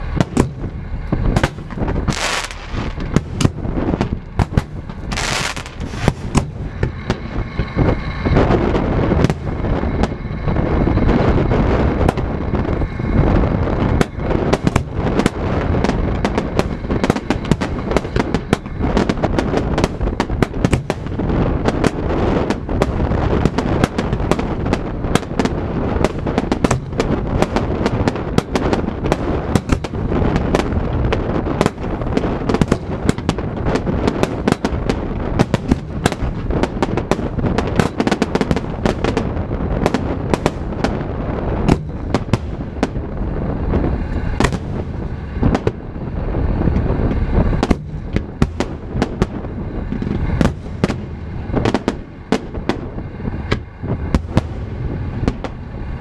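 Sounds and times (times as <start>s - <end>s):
fireworks bangs and crackles: 0.0s - 56.0s
steady low rumble: 0.0s - 56.0s.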